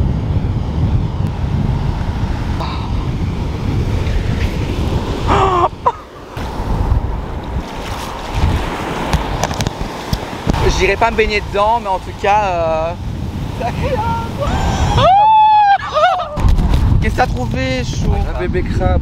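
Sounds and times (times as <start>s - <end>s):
ocean surf breaking: 0.0s - 18.4s
wind buffeting microphone: 0.0s - 19.0s.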